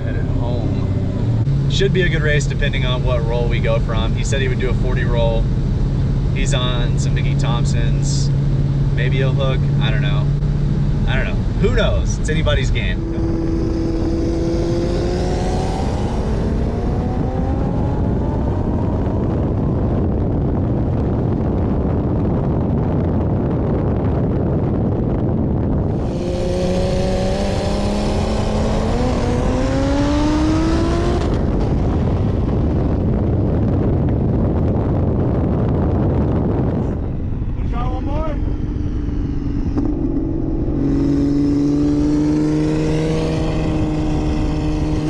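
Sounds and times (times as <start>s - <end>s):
car engine accelerating hard: 0.0s - 45.0s
wind and road noise: 0.0s - 45.0s.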